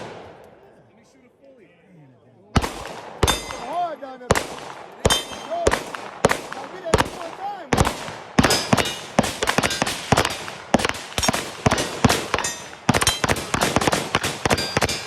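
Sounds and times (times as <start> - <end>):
rapid gunfire: 2.6 - 15.0.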